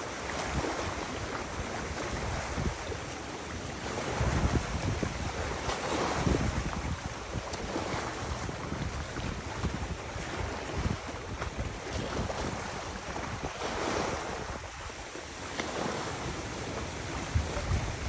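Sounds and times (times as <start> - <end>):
river water washing: 0.0 - 18.0
wind buffeting microphone: 0.0 - 18.0.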